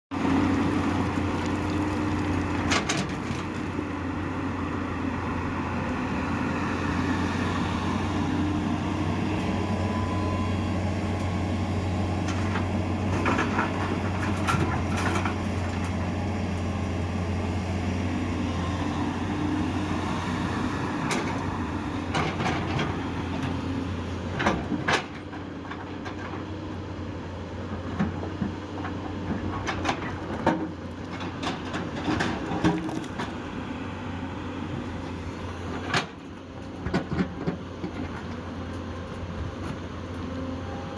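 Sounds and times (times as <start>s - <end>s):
excavator diesel engine running: 0.2s - 40.9s.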